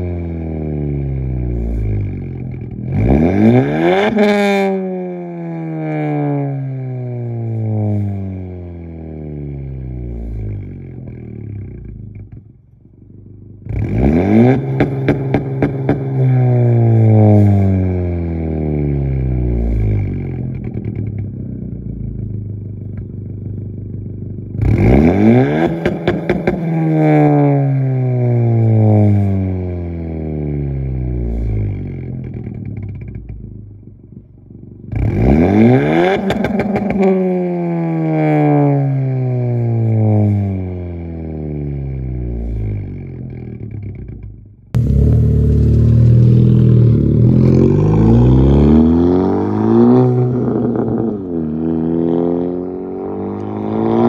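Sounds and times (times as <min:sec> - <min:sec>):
car exhaust idling and revving: 0:00.0 - 0:54.0.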